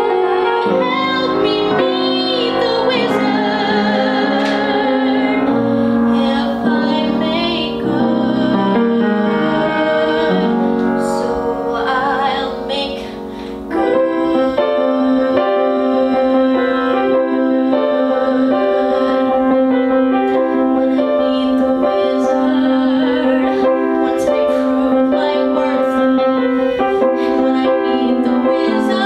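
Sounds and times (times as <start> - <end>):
piano accompaniment: 0.0 - 29.0
woman singing with vibrato: 0.0 - 29.0.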